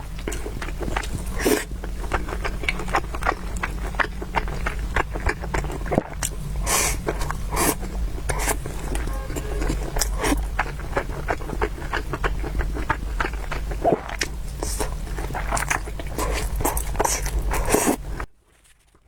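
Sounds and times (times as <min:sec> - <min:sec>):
steady low hum: 0:00.0 - 0:18.3
chewing smacks and clicks: 0:00.1 - 0:18.3.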